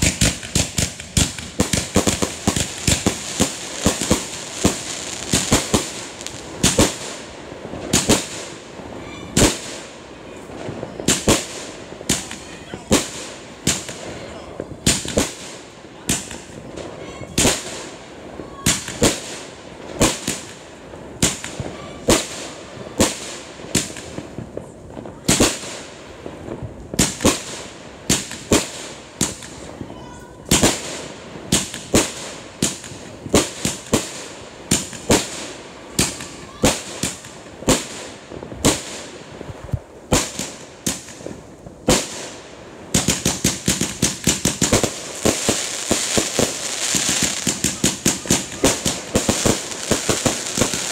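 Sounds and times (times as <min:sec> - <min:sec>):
fireworks bangs: 0:00.0 - 0:50.9
fireworks crackling: 0:00.0 - 0:50.9.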